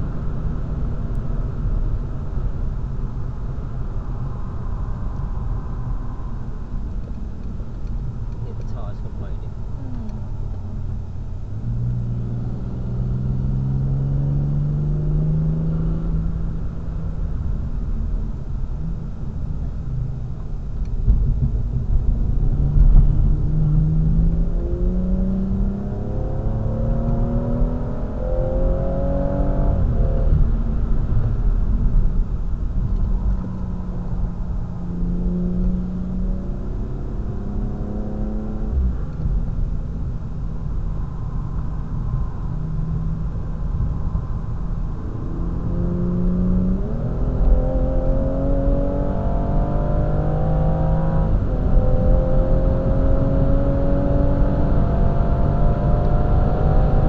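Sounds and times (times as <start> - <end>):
car engine accelerating: 0.0 - 57.0
road and tyre rumble: 0.0 - 57.0.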